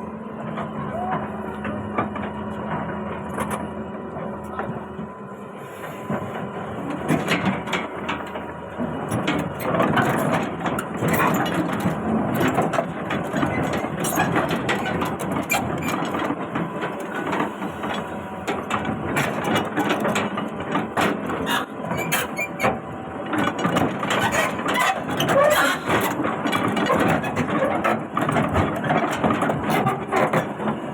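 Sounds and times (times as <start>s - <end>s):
excavator running: 0.0s - 30.9s.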